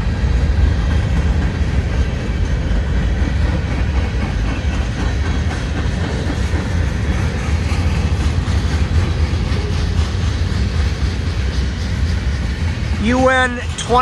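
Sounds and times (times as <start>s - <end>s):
freight cars rumbling on rails: 0.0s - 14.0s.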